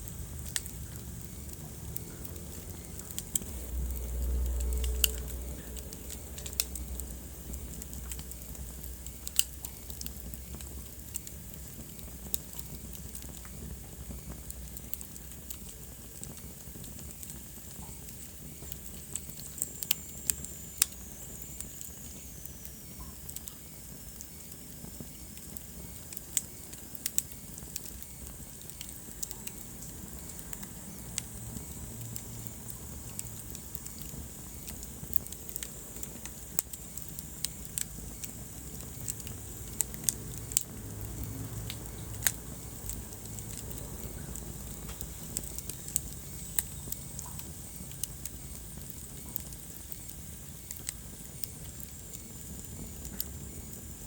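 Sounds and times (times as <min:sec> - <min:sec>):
low rumble of flame: 0:00.0 - 0:54.0
wood fire crackling: 0:00.0 - 0:54.0.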